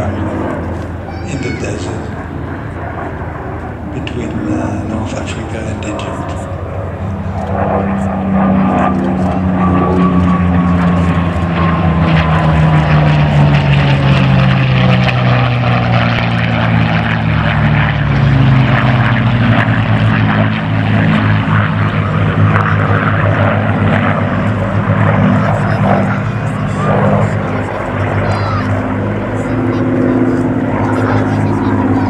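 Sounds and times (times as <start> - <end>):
propeller planes flying by: 0.0 - 32.0.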